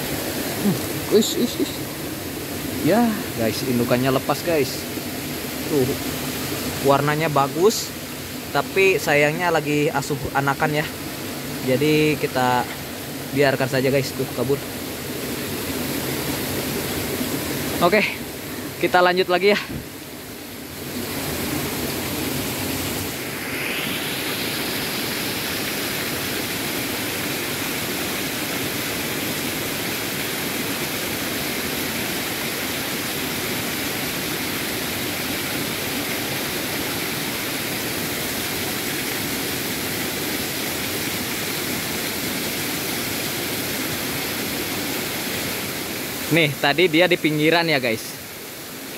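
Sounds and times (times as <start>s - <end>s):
stream flowing over stones: 0.0s - 48.9s.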